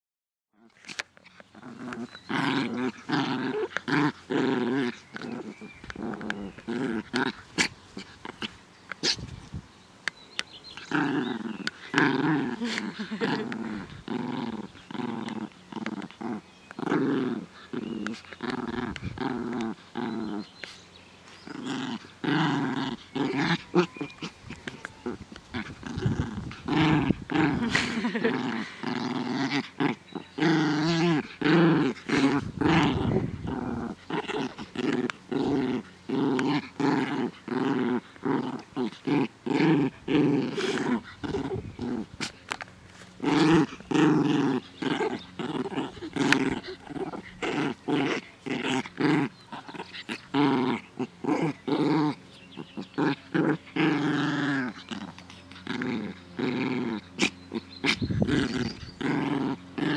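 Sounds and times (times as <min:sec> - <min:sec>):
small dog growling in play: 0:00.5 - 0:59.9.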